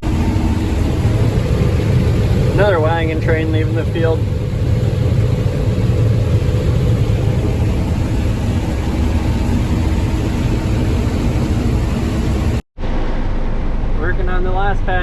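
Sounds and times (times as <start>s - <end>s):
combine harvester engine drone: 0.0s - 12.6s.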